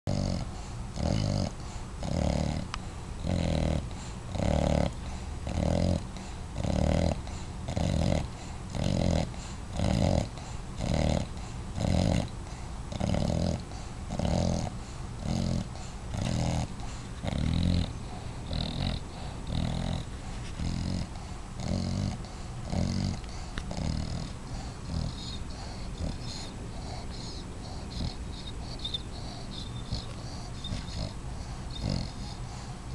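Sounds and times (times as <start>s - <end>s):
puppy snoring: 0.1s - 32.9s.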